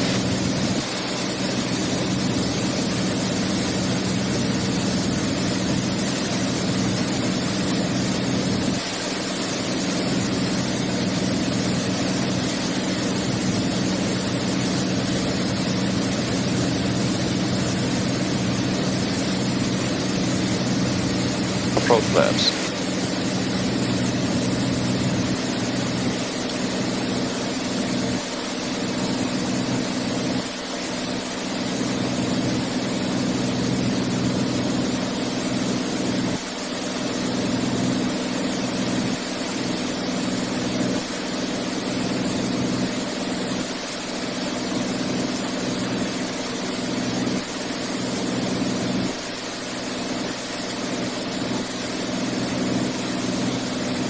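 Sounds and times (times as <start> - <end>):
propeller engine drone: 0.0 - 54.0.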